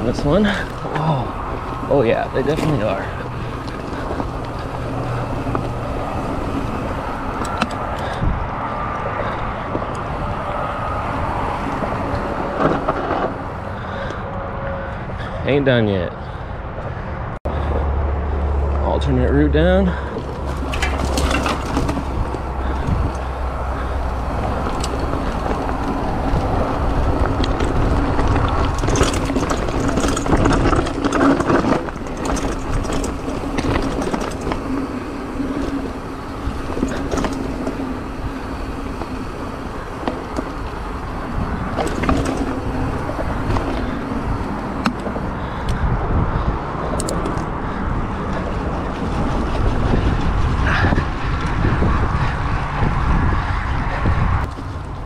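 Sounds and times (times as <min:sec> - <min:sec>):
tyres rolling over dirt and stones: 0:00.0 - 0:14.2, 0:18.7 - 0:55.0
bike rattling over bumps: 0:00.0 - 0:55.0.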